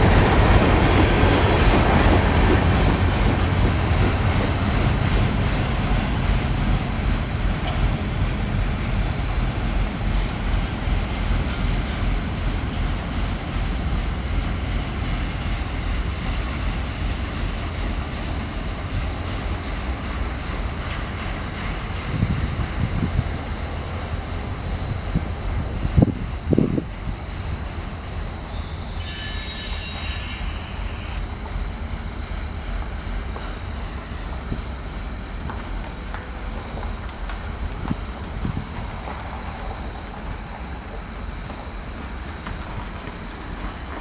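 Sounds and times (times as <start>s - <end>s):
freight train wheels rumbling on rail: 0.0s - 44.0s.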